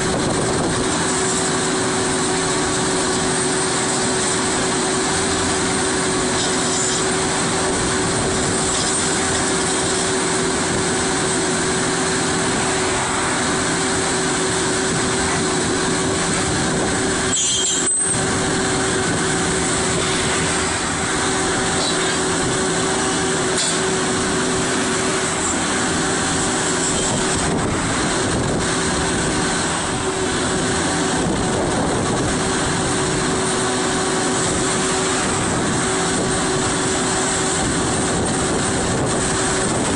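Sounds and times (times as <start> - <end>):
drilling rig engine droning: 0.0 - 39.9.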